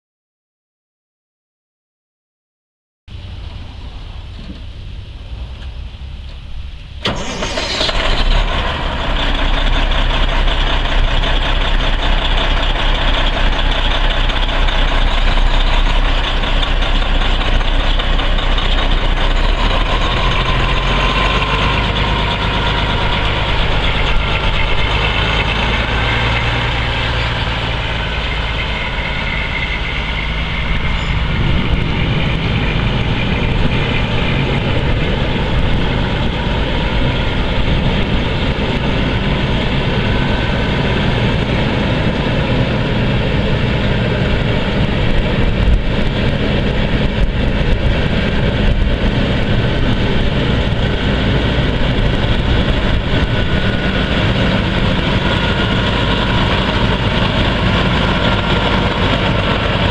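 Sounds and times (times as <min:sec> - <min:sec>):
diesel truck engine running: 0:03.1 - 0:59.9.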